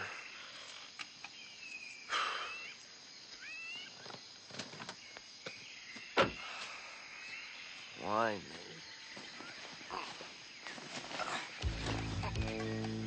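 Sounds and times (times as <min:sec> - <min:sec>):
forest ambience: 0:00.0 - 0:13.0.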